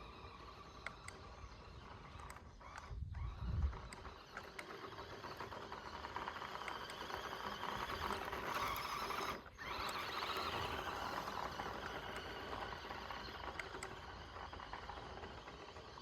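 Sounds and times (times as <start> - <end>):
electric motor and gears whining: 0.0 - 16.0
tyres scrabbling on loose ground: 1.4 - 16.0.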